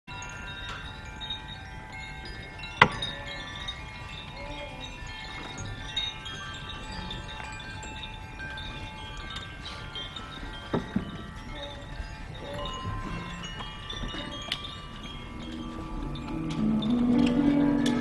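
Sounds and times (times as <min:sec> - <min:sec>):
singing bowls ringing: 0:00.1 - 0:18.0.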